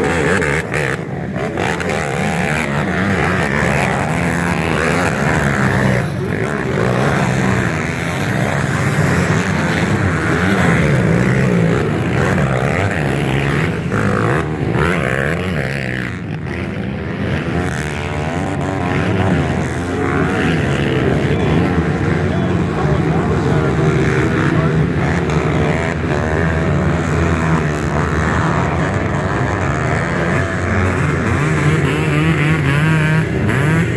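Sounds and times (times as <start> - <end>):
motocross bike engines revving: 0.0 - 33.9.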